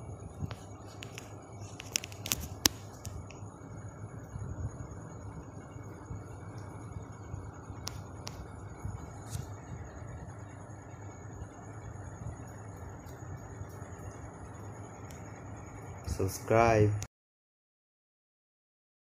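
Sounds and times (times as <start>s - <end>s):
electric fan whirring: 0.0s - 17.1s.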